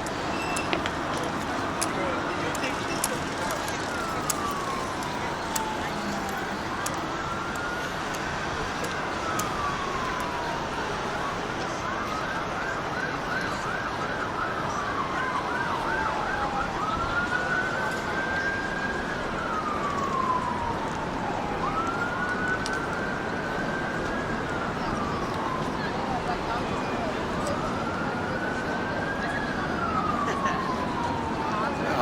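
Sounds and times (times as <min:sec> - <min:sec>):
emergency vehicle siren: 0:00.0 - 0:32.0
steady background noise: 0:00.0 - 0:32.0.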